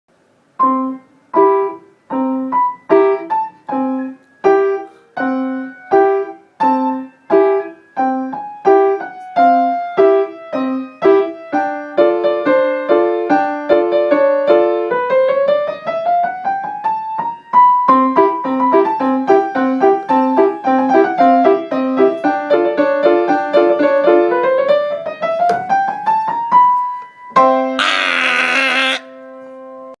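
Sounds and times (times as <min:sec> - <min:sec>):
piano music: 0:00.5 - 0:30.0.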